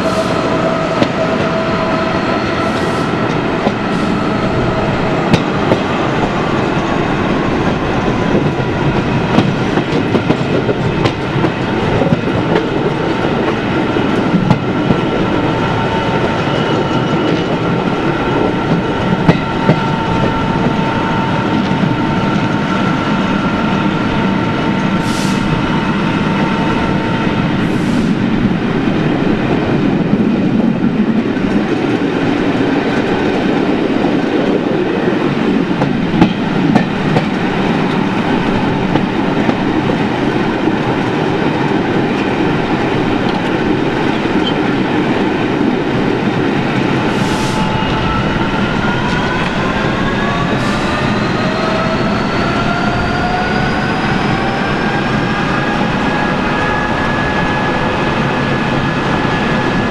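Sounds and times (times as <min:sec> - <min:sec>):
rising train whine: 0:00.0 - 0:59.9
train wheels rumbling on rails: 0:00.0 - 0:59.9.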